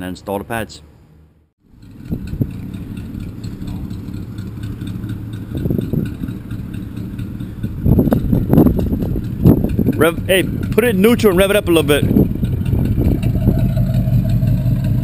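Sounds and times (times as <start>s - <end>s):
engine idling: 1.6s - 15.0s.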